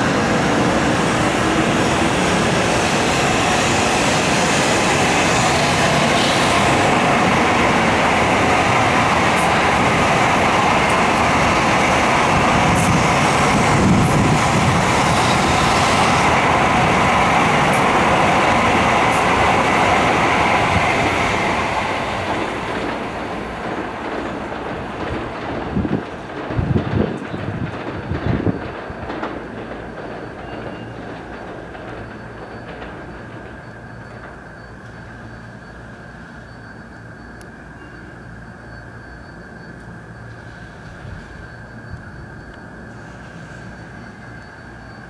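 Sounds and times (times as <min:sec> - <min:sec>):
train rushing past on rails: 0:00.0 - 0:45.0.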